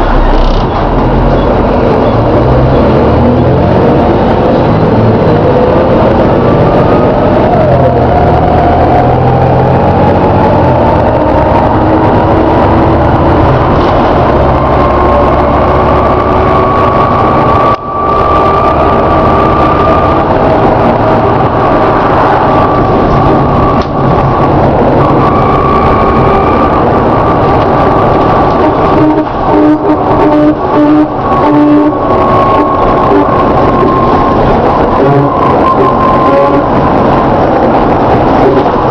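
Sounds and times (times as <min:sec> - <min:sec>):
bus engine rumbling: 0:00.0 - 0:38.9
drivetrain groaning whine: 0:00.0 - 0:38.9.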